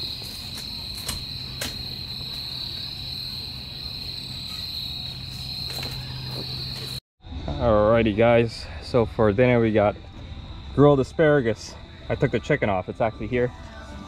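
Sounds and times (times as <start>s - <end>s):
crickets trilling: 0.0s - 13.8s.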